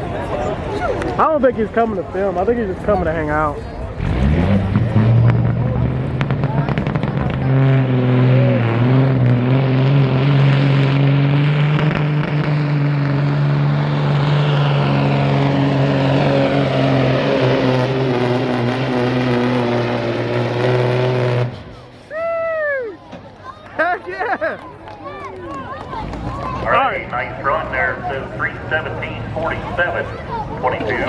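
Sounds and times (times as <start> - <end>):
diesel truck engine under load: 0.0 - 22.2, 22.8 - 31.0.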